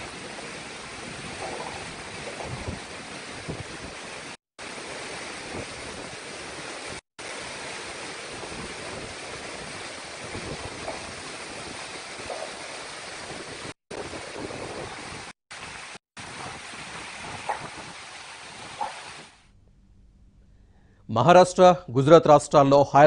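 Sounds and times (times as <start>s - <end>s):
strong wind: 0.0s - 19.3s
heavy rain: 0.0s - 19.4s
rough sea: 0.0s - 19.4s.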